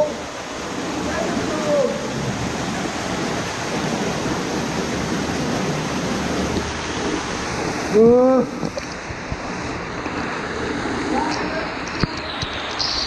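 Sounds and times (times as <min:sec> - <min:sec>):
water gushing and splashing: 0:00.0 - 0:12.9.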